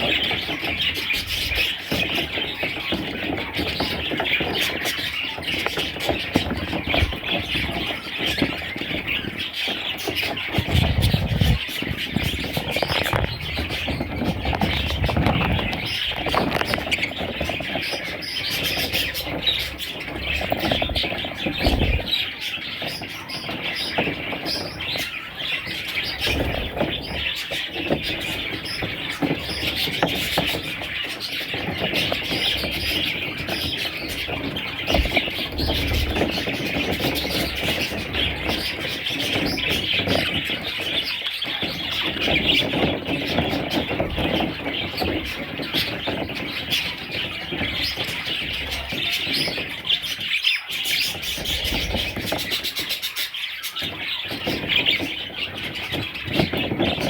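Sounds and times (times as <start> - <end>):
baby budgerigars chirping: 0.0 - 57.0.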